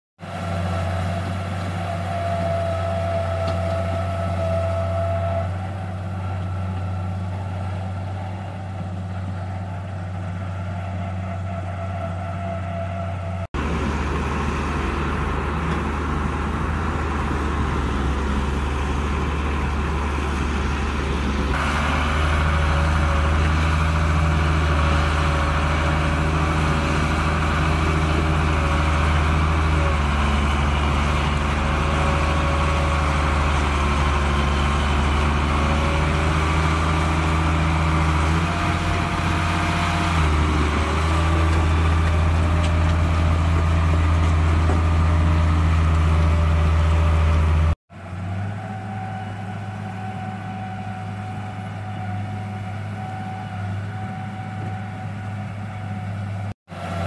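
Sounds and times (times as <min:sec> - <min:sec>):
bulldozer diesel engine under load: 0:00.2 - 0:57.0.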